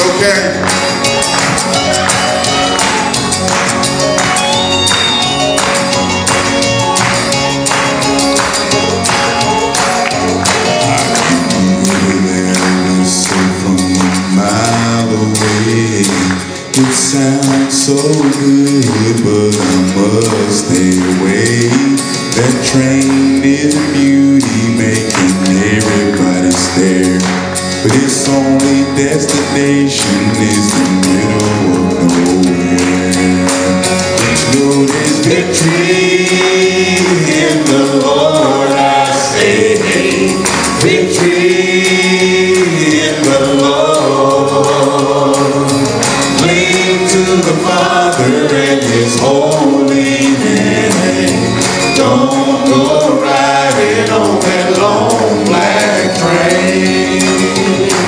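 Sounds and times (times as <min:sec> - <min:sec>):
male vocal group singing gospel: 0:00.0 - 0:58.0
steady percussive beat: 0:00.0 - 0:58.0.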